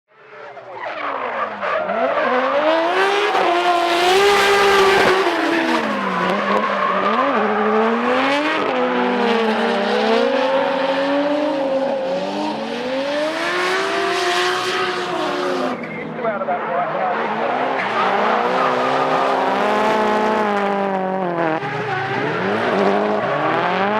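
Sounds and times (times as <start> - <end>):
tyres skidding and squealing: 0.2 - 23.9
car engines revving hard: 0.5 - 23.9.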